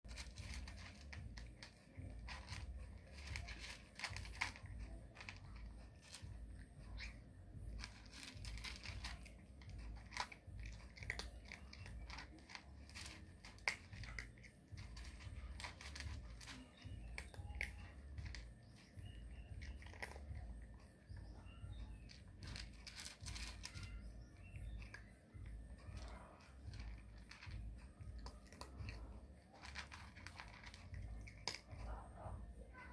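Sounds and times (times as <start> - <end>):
cat crunching and chewing food: 0.0 - 32.9.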